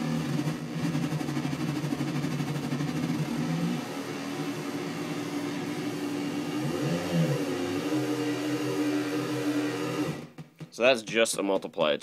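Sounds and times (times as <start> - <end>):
synthesizer drone: 0.0 - 10.4.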